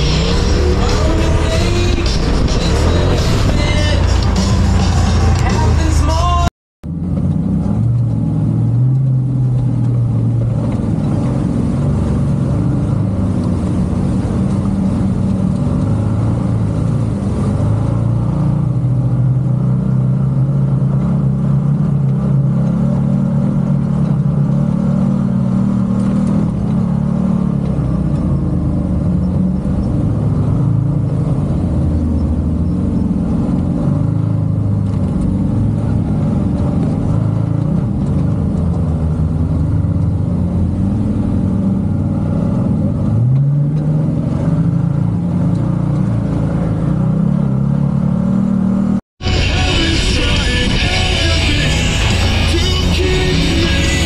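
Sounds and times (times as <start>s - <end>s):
engine running at low revs: 0.0s - 54.0s.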